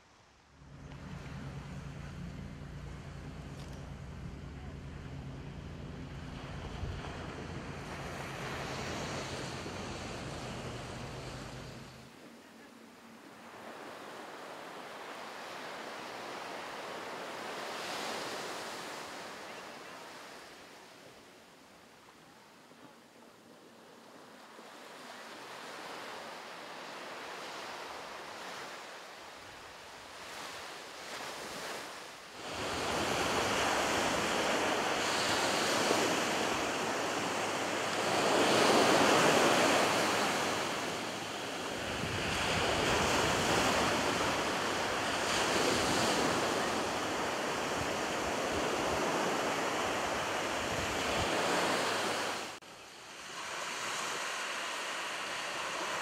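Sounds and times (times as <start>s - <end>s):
waves washing onto shore: 0.6s - 56.0s.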